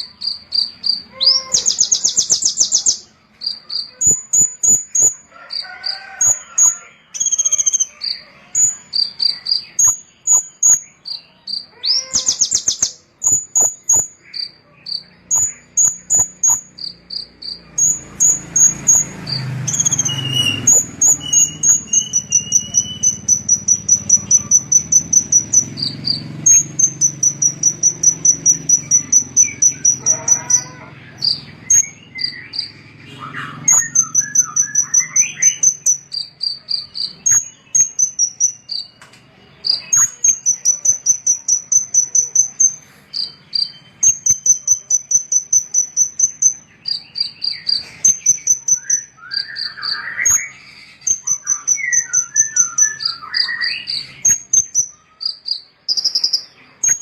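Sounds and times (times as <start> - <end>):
songbird high-pitched trill: 0.0 - 57.0.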